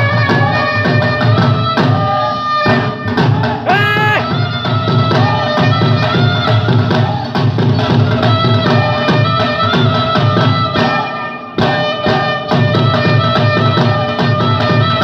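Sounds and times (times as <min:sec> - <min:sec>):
dhol drum beating: 0:00.0 - 0:15.0.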